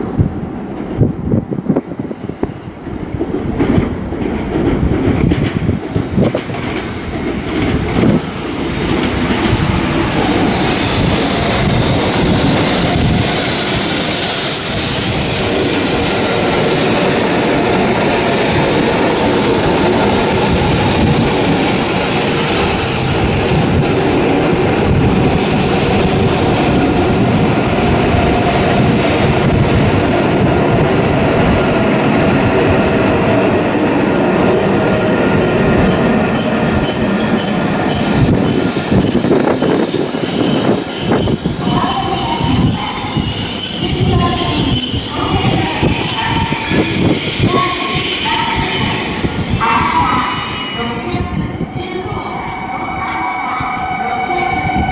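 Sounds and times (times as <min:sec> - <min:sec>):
train wheels rushing past: 0:00.0 - 0:54.9.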